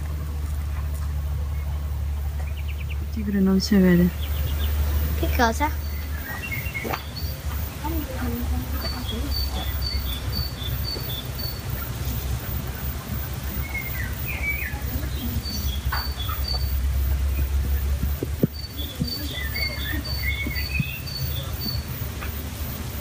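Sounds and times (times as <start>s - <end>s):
low rumble: 0.0s - 22.0s
warbling bird calls: 0.0s - 23.0s.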